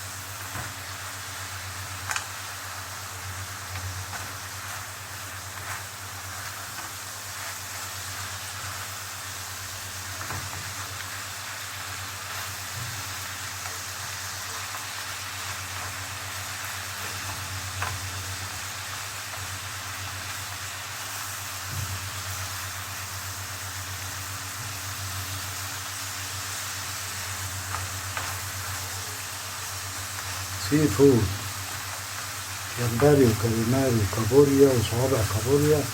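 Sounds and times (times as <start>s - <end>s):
seafood sizzling in oil: 0.0s - 35.9s.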